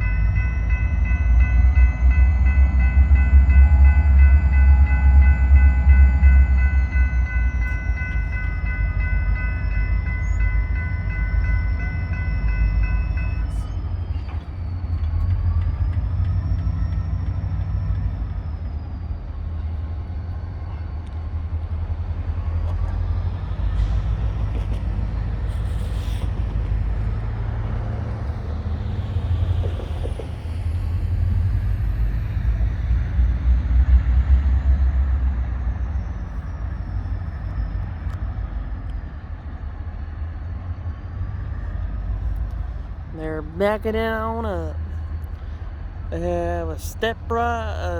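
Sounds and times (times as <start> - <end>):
locomotive engine rumble: 0.0 - 47.9.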